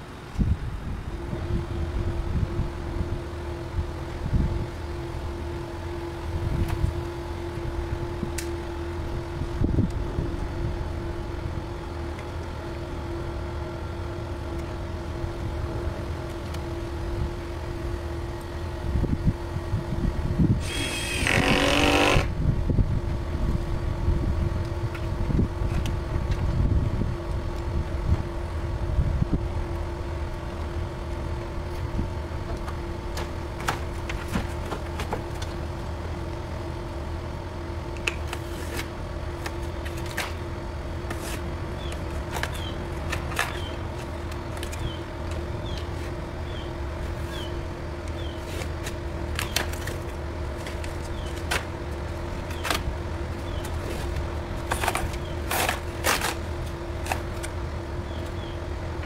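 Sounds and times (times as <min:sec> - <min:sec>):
motor hum: 0:00.0 - 0:59.0.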